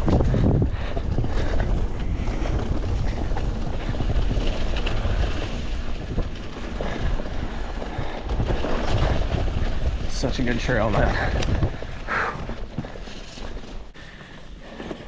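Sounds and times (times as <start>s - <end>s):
wind buffeting microphone: 0.0s - 13.9s
faint clicks from rough ground: 0.0s - 15.0s
low rumble of bike tyres: 0.0s - 15.0s.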